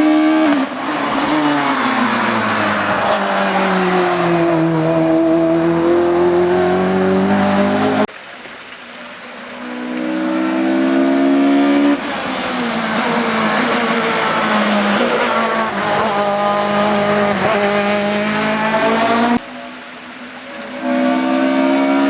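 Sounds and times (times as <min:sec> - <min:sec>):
race car engines revving: 0:00.0 - 0:08.1, 0:09.0 - 0:22.0.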